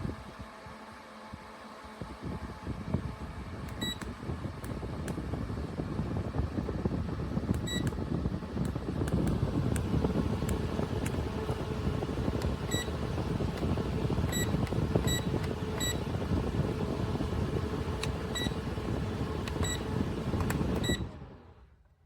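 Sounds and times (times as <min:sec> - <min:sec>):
fan airflow rushing: 0:00.0 - 0:21.9.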